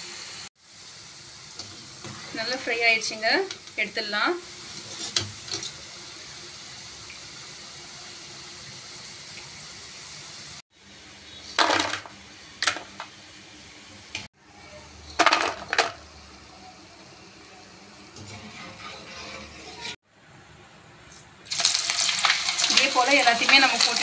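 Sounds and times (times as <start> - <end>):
food sizzling in hot oil: 0.0 - 20.0, 21.4 - 24.0.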